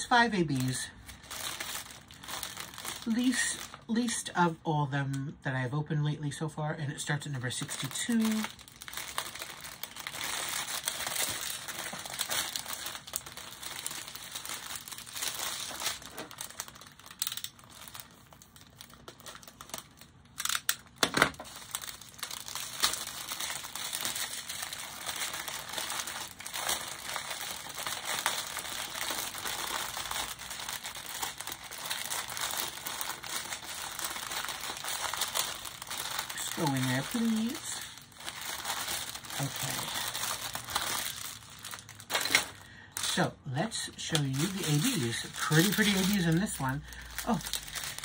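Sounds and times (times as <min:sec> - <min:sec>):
plastic wrap crinkling: 0:00.0 - 0:04.5, 0:07.0 - 0:48.0.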